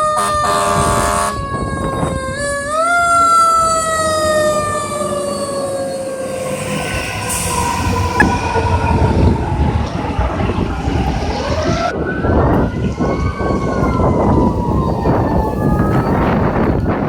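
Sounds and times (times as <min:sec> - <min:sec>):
fire truck sirens wailing: 0:00.0 - 0:17.0.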